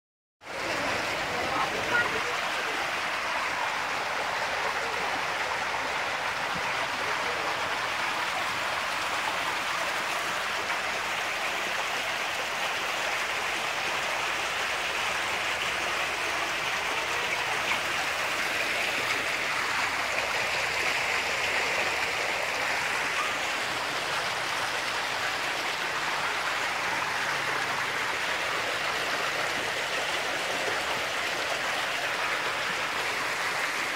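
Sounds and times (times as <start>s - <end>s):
water rushing along a ditch: 0.4s - 33.9s.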